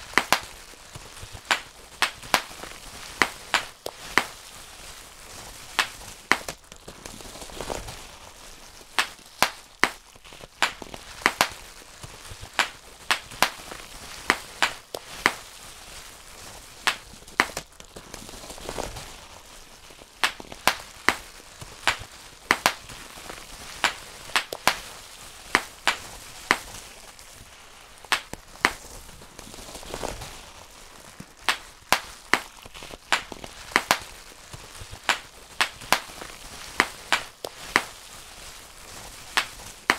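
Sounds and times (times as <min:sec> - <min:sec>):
bubble wrap popping: 0:00.0 - 0:39.9
plastic sheet crinkling: 0:00.0 - 0:39.9.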